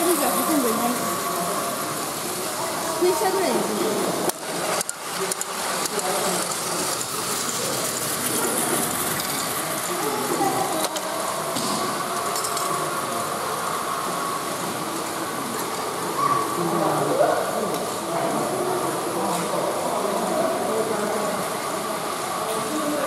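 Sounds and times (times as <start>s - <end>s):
toy trains humming and rattling: 0.0s - 23.0s.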